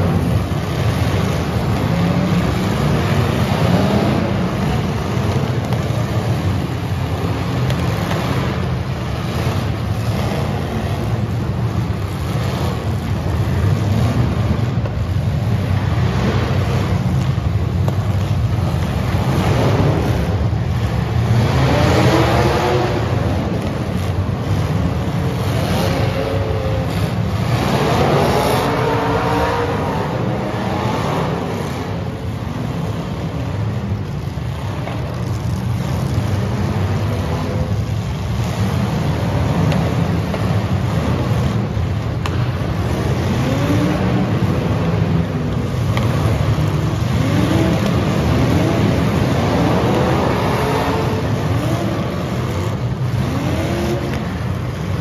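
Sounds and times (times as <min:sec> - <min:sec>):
car engines rumbling: 0:00.0 - 0:55.0
engines revving: 0:00.0 - 0:55.0.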